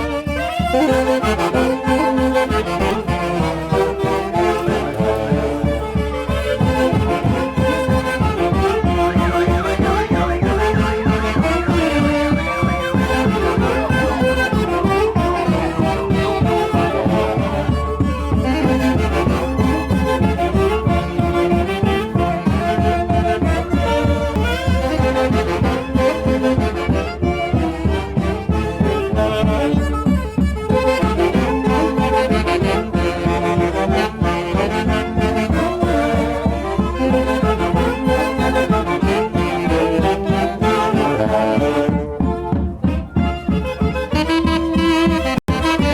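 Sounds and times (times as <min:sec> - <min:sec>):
steady driving beat: 0:00.0 - 0:45.9
wind instruments playing a melody: 0:00.0 - 0:45.9.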